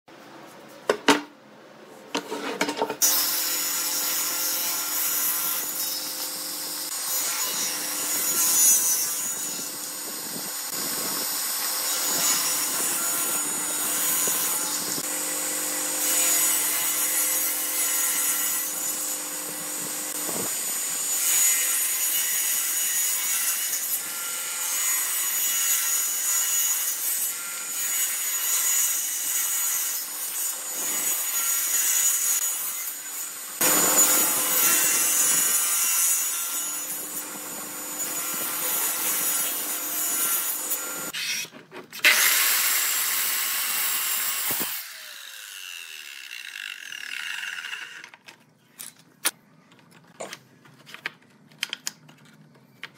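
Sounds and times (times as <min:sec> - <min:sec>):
table saw ripping wood: 0:02.1 - 0:48.3.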